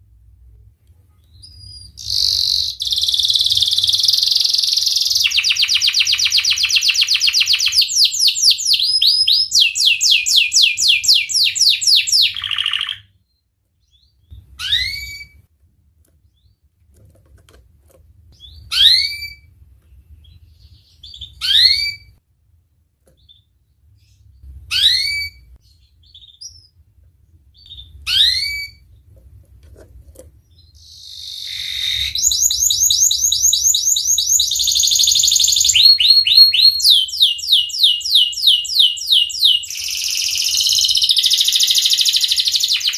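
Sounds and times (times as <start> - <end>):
canary singing: 1.2 - 15.4, 18.3 - 22.2, 23.2 - 26.8, 27.5 - 29.1, 30.4 - 42.9.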